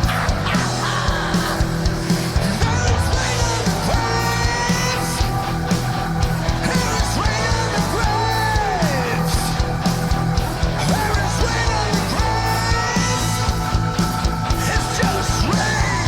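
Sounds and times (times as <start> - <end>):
heavy metal music: 0.0 - 16.0.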